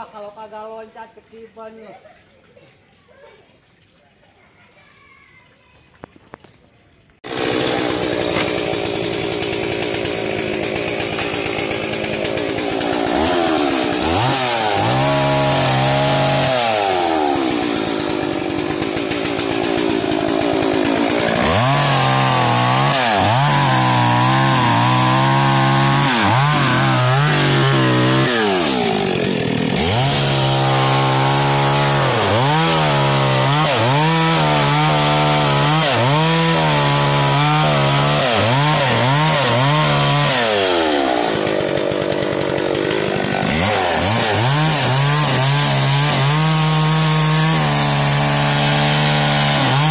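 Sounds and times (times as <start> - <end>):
chainsaw cutting wood: 7.2 - 49.9.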